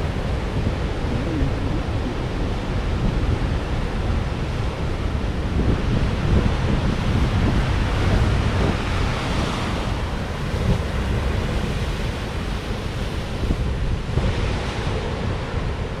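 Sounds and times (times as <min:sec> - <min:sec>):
wind buffeting microphone: 0:00.0 - 0:15.9
waves crashing on shore: 0:00.0 - 0:16.0.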